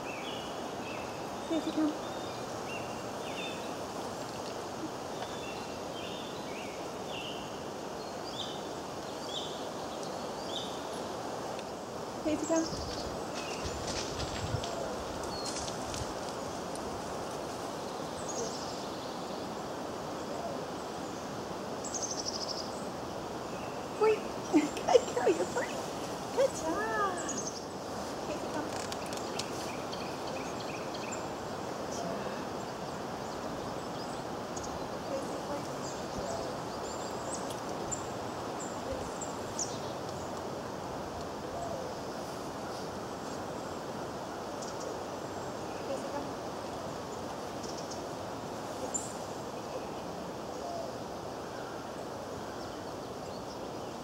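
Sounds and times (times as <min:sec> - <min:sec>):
small birds chirping: 0:00.0 - 0:40.6, 0:41.6 - 0:54.0
outdoor background noise: 0:00.0 - 0:54.0.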